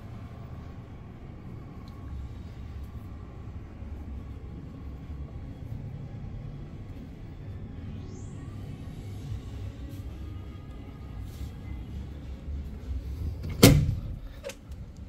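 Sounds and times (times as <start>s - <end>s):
faint constant hum: 0.0s - 15.0s
low room rumble: 0.0s - 15.0s.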